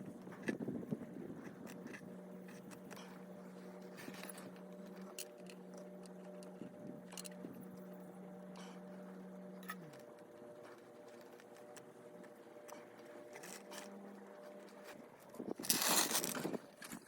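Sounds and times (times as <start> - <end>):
handling clicks and scrapes: 0.0 - 17.0
steady machine hum: 0.0 - 17.0.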